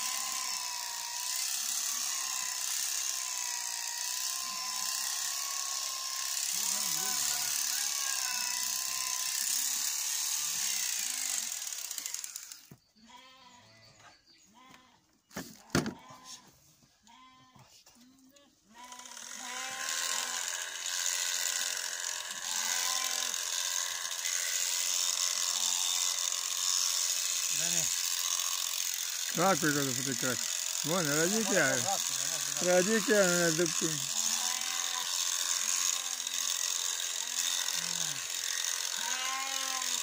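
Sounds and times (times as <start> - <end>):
electric shears cutting fleece: 0.0 - 12.8, 18.8 - 40.0.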